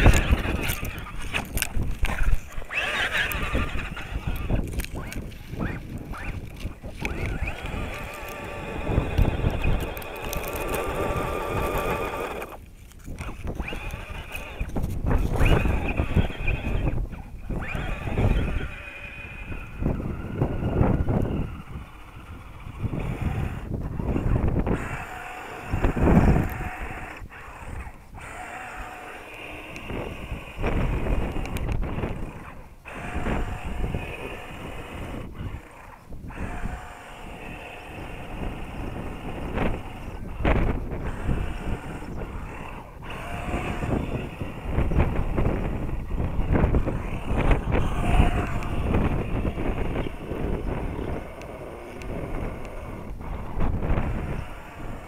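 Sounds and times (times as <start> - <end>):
rc car motor whine: 0.0 - 55.0
tyres spinning in sand: 0.0 - 55.0
wind buffeting microphone: 0.0 - 55.0.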